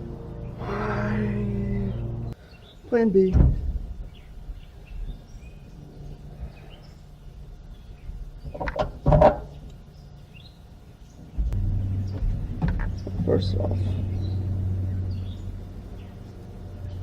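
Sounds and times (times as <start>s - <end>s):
birds chirping faintly: 0.0s - 17.0s
steady low hum: 0.0s - 17.0s.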